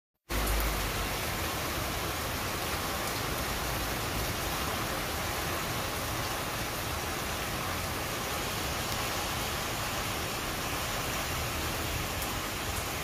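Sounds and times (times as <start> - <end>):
heavy rain on foliage: 0.3 - 13.0.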